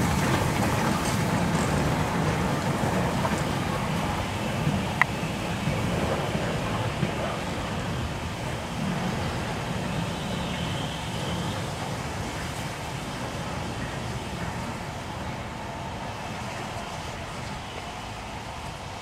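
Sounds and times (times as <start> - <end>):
steam blowing from cylinders: 0.0 - 19.0
steam locomotive rumble: 0.0 - 19.0.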